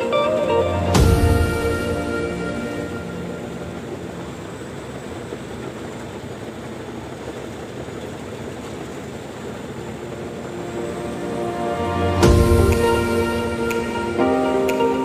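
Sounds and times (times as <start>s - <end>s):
bulldozer running: 0.0s - 15.0s.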